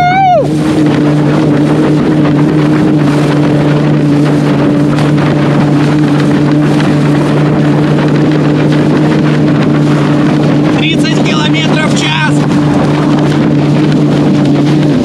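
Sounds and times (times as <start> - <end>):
water spray rushing: 0.0 - 15.0
wind on microphone: 0.0 - 15.0.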